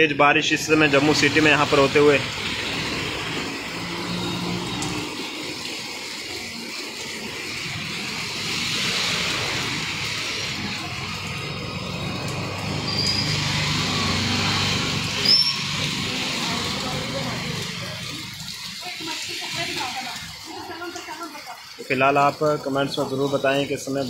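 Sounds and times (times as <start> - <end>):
heavy rain pouring on street: 0.0 - 24.0
vehicles driving through water: 0.0 - 24.0
tyres hissing on wet road: 0.2 - 24.0.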